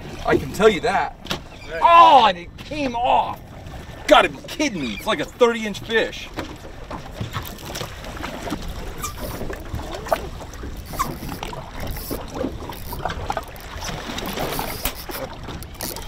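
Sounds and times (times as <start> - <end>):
water slapping boat hull: 0.0 - 16.0.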